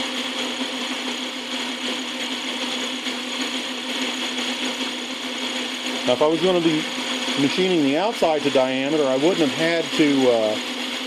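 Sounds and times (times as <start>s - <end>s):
metal lathe motor hum: 0.0s - 11.0s.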